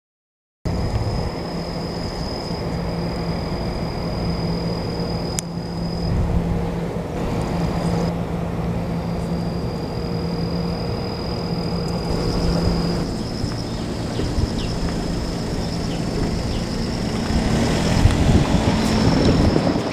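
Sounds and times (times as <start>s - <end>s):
vehicle rumble: 0.7s - 19.9s.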